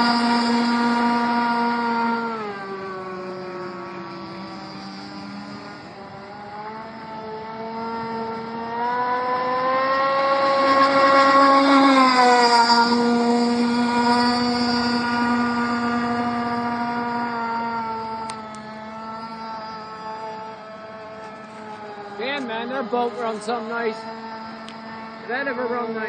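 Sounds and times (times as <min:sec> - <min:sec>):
model speedboat motor whining: 0:00.0 - 0:26.0.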